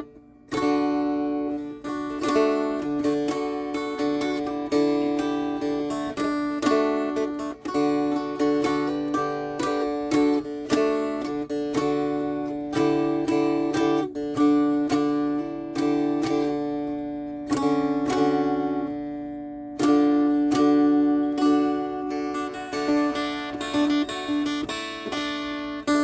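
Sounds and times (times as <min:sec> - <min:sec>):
dulcimer melody: 0:00.0 - 0:26.0.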